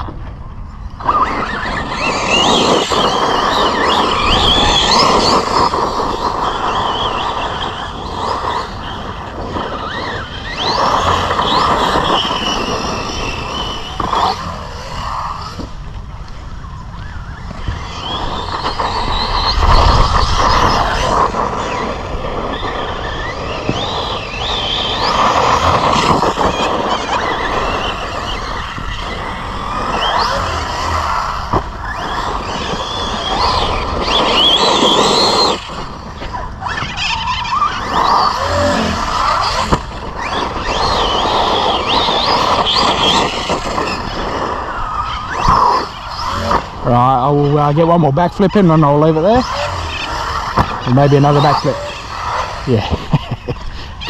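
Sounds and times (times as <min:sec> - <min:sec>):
rough rushing noise: 0:00.0 - 0:54.0
toy car motor whine: 0:00.9 - 0:54.0.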